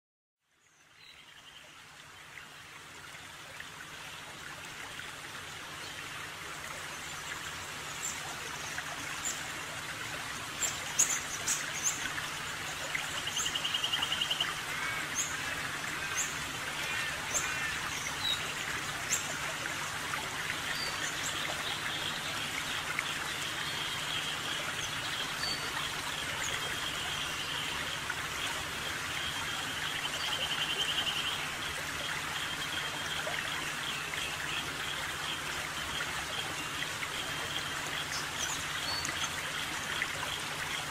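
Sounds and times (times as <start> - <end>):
running water: 0.4 - 40.9.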